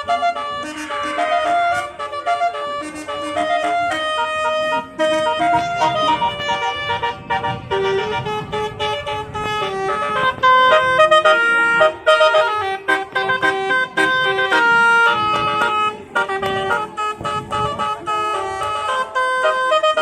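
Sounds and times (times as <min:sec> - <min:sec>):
multi-tone vehicle horn tune: 0:00.0 - 0:20.0.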